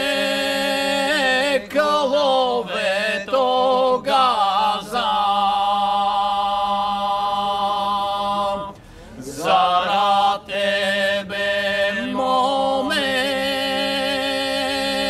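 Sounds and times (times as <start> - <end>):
held vocal drone: 0.0 - 15.0
men singing a cappella: 0.0 - 15.0.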